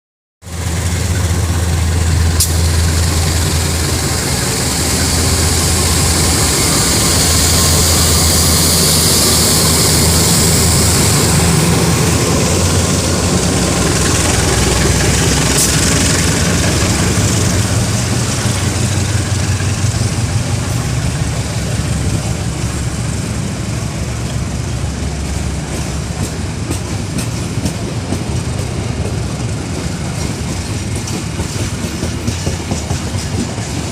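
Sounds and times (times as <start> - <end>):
diesel locomotive engine droning: 0.4 - 33.9
strong hiss: 0.5 - 33.9.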